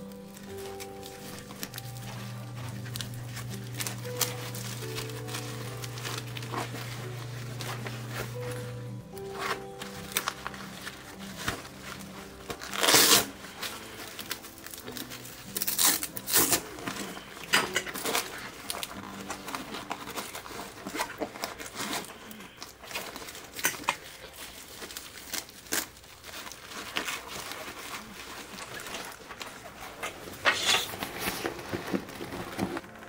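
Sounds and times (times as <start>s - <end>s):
backpack straps rustling and scraping: 0.0s - 33.0s.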